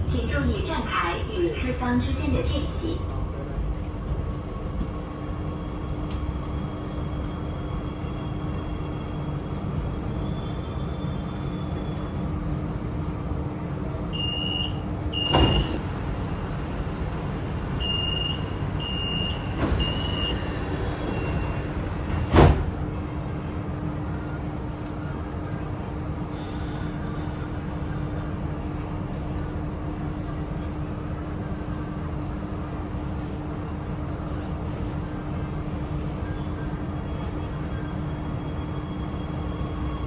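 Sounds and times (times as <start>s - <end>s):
train interior rumble and hum: 0.0s - 40.0s.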